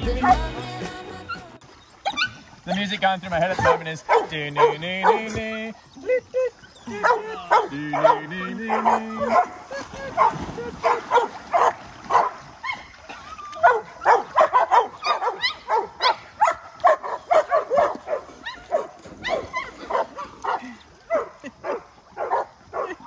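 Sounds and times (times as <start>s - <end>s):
dog barking and yipping: 2.0s - 2.8s, 3.5s - 5.5s, 6.6s - 23.0s.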